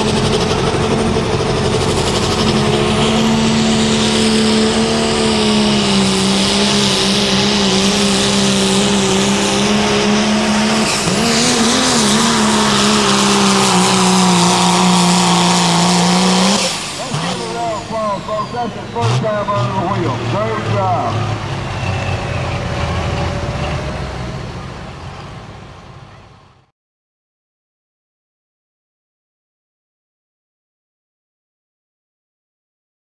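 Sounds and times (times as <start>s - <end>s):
diesel engine running under load: 0.0s - 26.7s.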